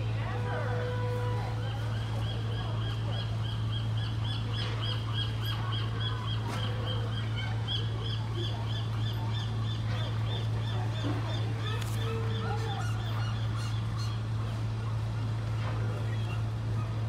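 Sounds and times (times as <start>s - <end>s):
steady low hum: 0.0s - 17.0s
scattered bird calls: 1.6s - 17.0s.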